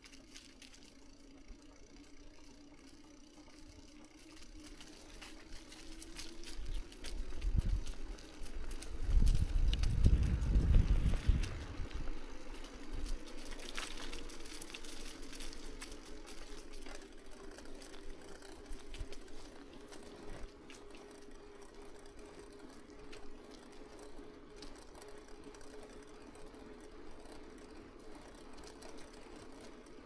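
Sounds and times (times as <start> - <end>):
bicycle freewheel ticking: 0.0 - 30.0
faint steady hum: 0.0 - 30.0.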